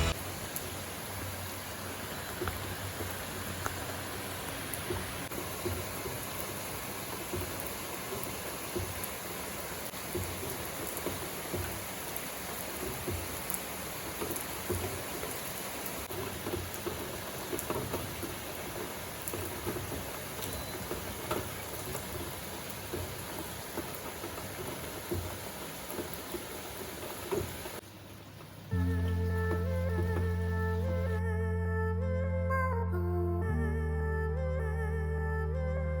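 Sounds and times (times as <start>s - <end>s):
steady rain falling: 0.0s - 32.2s.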